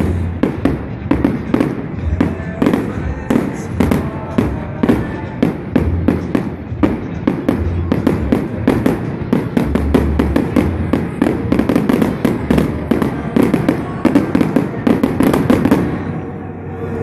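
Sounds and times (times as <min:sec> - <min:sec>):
crackling firework stars: 0:00.0 - 0:16.2.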